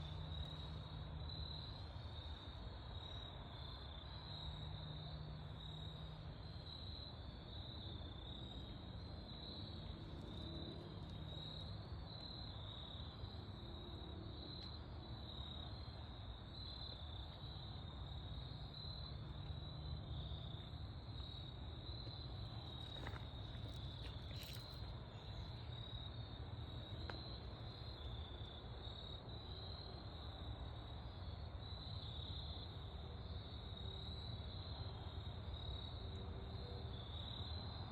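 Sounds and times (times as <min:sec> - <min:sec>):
crickets chirping: 0:00.0 - 0:37.9.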